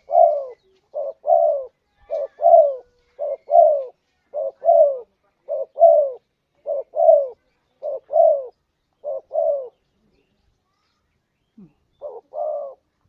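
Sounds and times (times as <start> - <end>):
dove cooing: 0.0 - 9.8, 11.6 - 12.9.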